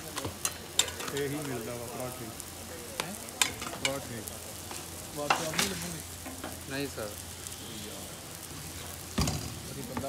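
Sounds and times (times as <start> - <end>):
oil sizzling on a griddle: 0.0 - 10.0.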